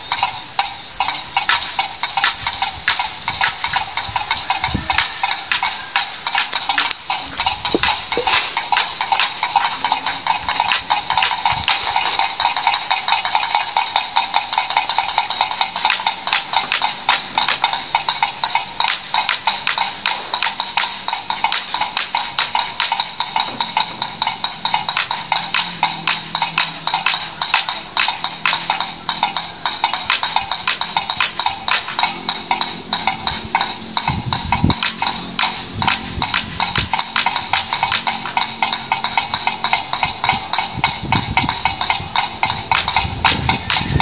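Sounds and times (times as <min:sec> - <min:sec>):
windmill clacking: 0:00.0 - 0:44.0.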